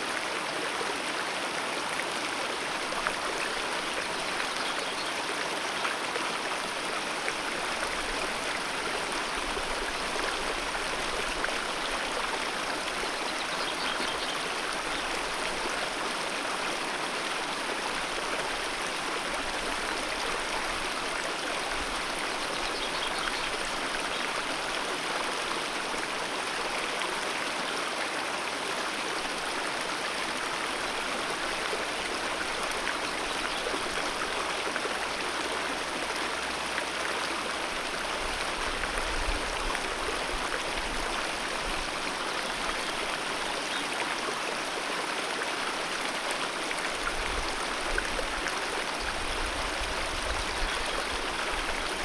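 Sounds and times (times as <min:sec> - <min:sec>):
mountain river flowing: 0:00.0 - 0:52.0.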